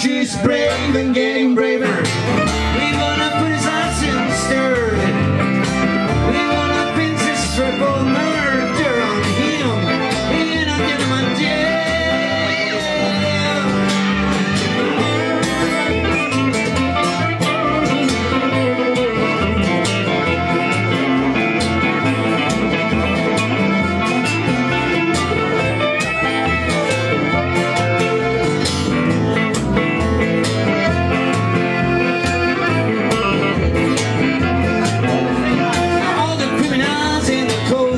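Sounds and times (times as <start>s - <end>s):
accordion: 0.0s - 37.9s
acoustic guitar strumming: 0.0s - 37.9s
electric guitar melody bending: 0.0s - 37.9s.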